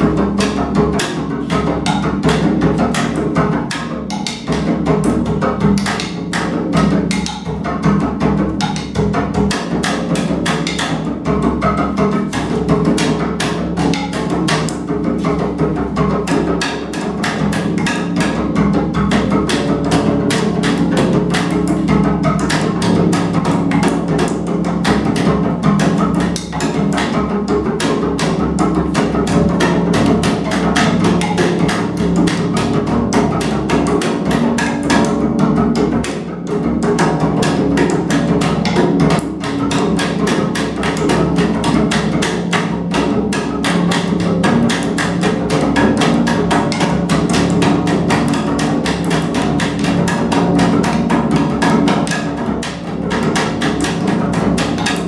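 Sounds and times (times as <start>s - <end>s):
bowed double bass: 0.0s - 55.0s.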